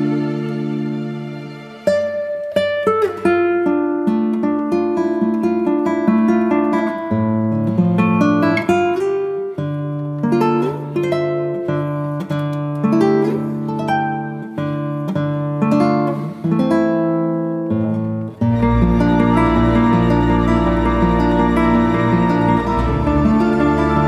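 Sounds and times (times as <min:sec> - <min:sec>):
plucked acoustic guitar melody: 0:00.0 - 0:24.0.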